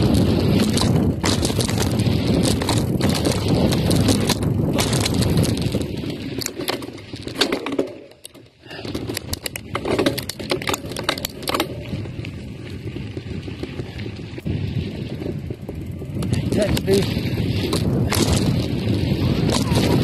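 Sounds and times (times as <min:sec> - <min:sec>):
wind buffeting microphone: 0:00.0 - 0:07.8, 0:08.6 - 0:20.0
bike clicking and rattling: 0:00.0 - 0:20.0
tyres on dirt: 0:00.0 - 0:20.0.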